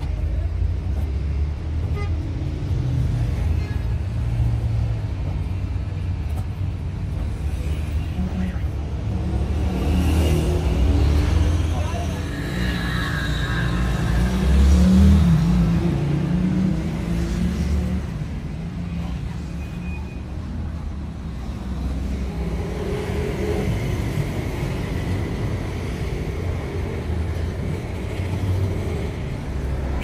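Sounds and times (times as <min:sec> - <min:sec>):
vehicle engines rumbling: 0:00.0 - 0:30.0.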